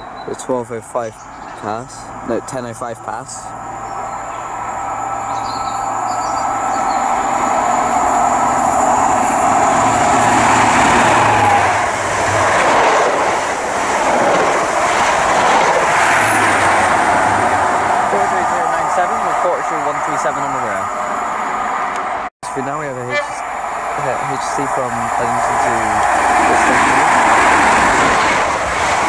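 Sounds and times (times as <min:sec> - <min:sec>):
diesel train passing: 0:00.0 - 0:29.0.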